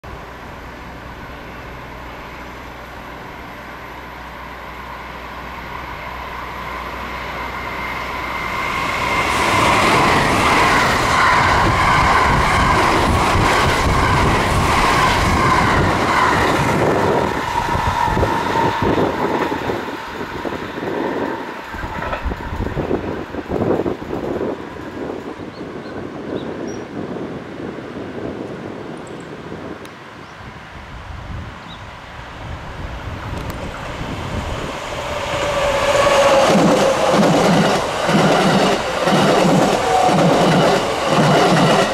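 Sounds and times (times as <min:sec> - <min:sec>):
train wheel noise: 0:00.0 - 0:29.9, 0:31.9 - 0:41.9
electric train passing at speed: 0:00.0 - 0:41.9
train whine: 0:00.0 - 0:41.9
wind buffeting microphone: 0:08.2 - 0:41.9.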